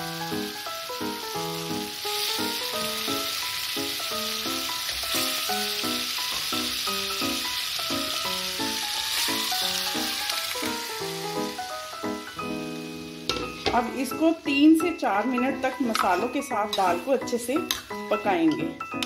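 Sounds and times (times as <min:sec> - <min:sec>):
background music: 0:00.0 - 0:19.0
food sizzling in hot oil: 0:00.0 - 0:19.0.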